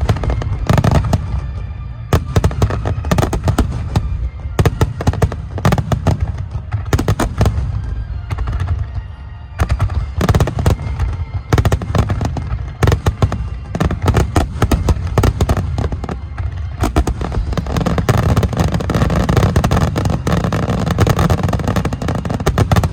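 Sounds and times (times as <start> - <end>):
firework crackle: 0.0 - 22.9
music: 0.0 - 22.9.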